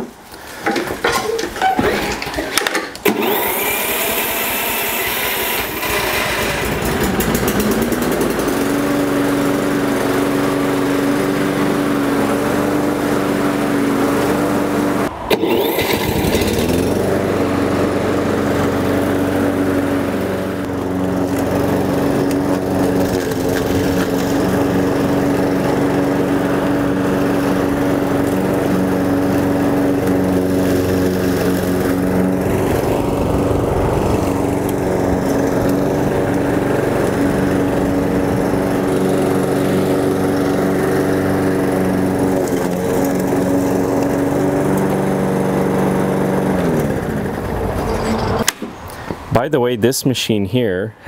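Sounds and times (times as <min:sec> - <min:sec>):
lawnmower engine running: 0:00.0 - 0:49.3.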